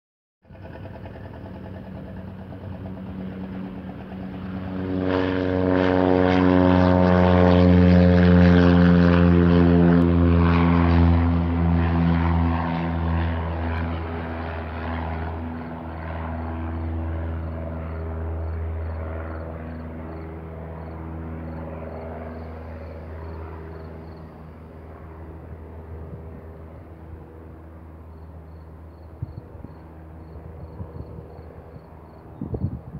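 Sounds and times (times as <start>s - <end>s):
propeller plane passing: 0.4s - 32.9s.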